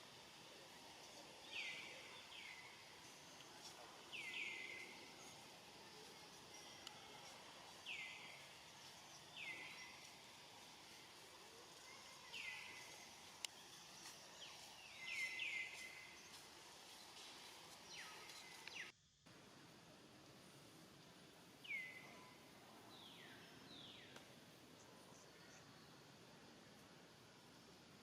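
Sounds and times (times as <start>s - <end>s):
faint outdoor background: 0.0s - 28.0s.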